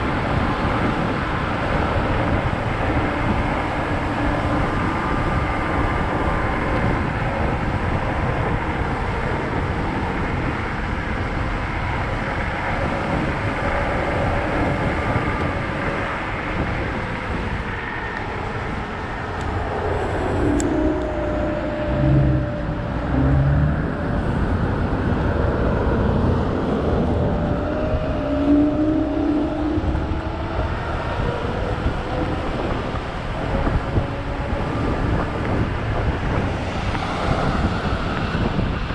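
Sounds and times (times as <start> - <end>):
electric scooter motor whine: 0.0 - 38.9
low rumbles: 0.0 - 38.9
road noise: 0.0 - 38.9
wind rushing over microphone: 0.0 - 38.9.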